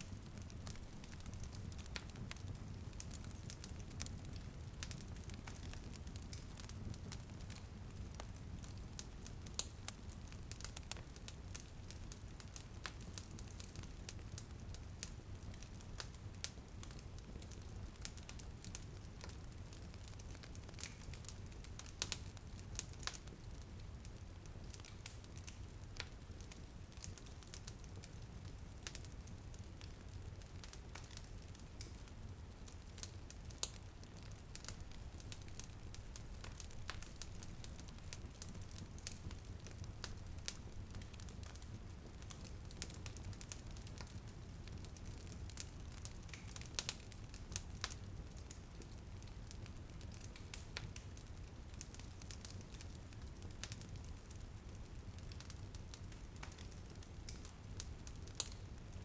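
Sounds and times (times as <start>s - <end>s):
light rain on a window: 0.0s - 59.0s
wood fire crackling: 0.0s - 59.0s.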